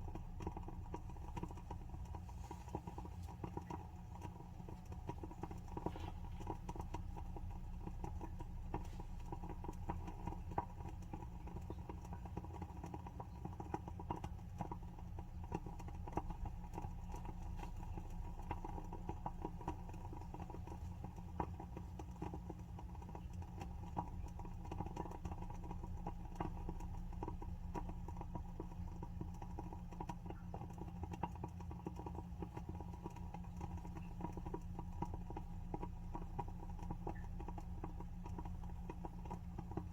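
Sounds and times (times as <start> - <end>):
candle wick crackling: 0.0 - 39.9
steady low hum: 0.0 - 39.9.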